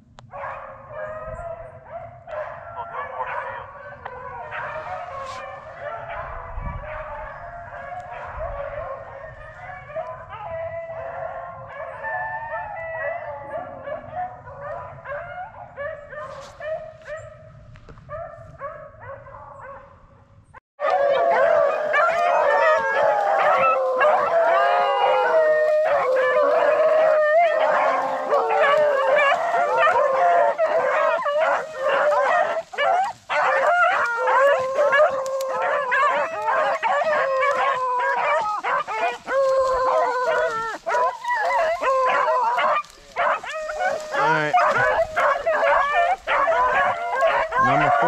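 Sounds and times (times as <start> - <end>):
hunting dogs baying: 0.3 - 17.5, 20.8 - 48.0.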